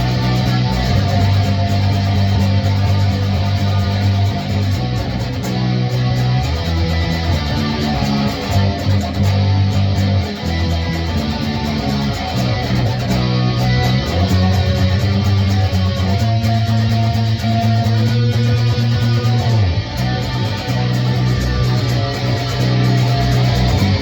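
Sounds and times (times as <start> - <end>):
bass guitar low notes: 0.0 - 24.0
electric guitar strummed chords: 0.0 - 24.0.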